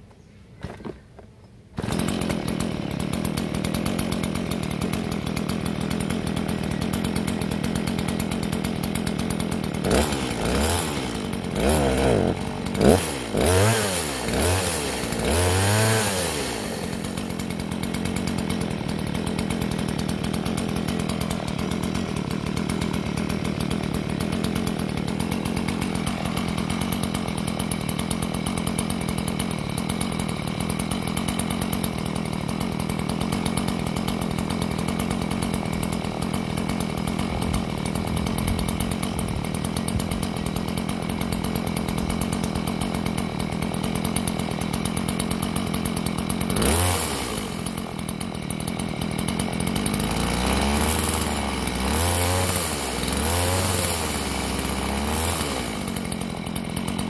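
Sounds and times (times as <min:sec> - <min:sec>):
chainsaw idling and revving: 0:01.7 - 0:57.0.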